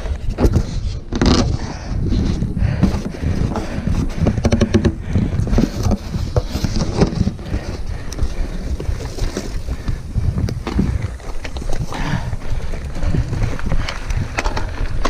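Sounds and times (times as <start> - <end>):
bike tyres rumbling on trail: 0.0 - 15.0
knocks and rattles of bike: 0.0 - 15.0
wind buffeting microphone: 0.0 - 15.0.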